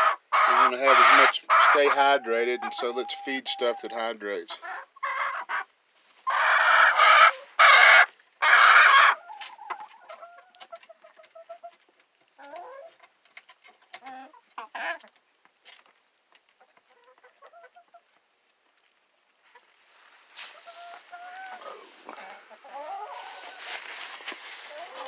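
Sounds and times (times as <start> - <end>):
hens clucking: 0.0 - 25.0.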